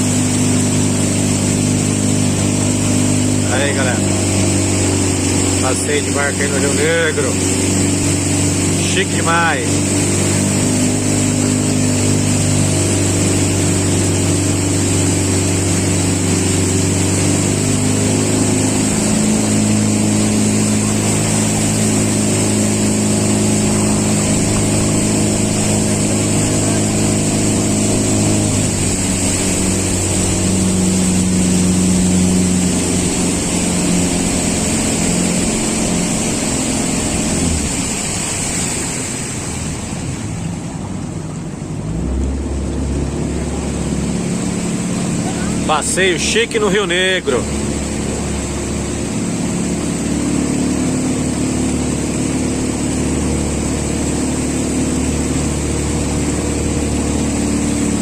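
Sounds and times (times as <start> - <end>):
motorboat engine running: 0.0 - 58.0
rush of wind and water: 0.0 - 58.0.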